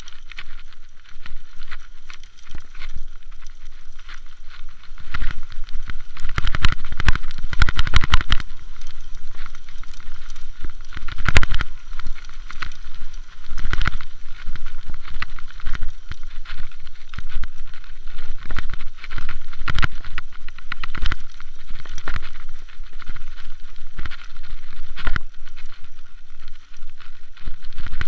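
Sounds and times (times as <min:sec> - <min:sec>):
mountain bike rattling and knocking: 0:00.0 - 0:28.0.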